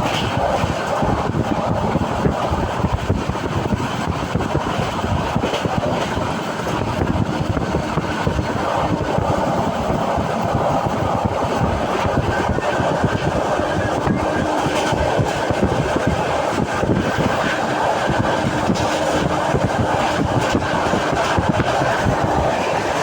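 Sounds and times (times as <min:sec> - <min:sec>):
train wheels on track: 0:00.0 - 0:23.0.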